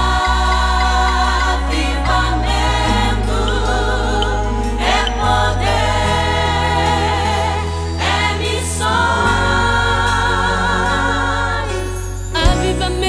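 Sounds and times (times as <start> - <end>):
person singing with vibrato: 0.0 - 13.0
sustained bass notes: 0.0 - 13.0.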